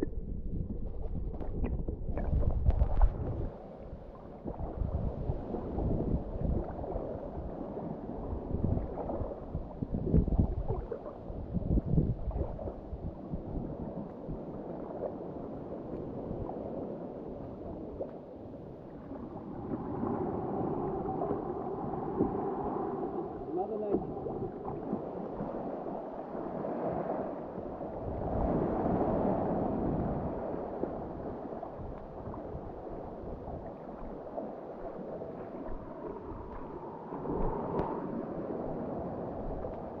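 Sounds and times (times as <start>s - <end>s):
water sloshing against kayak: 0.0s - 40.0s.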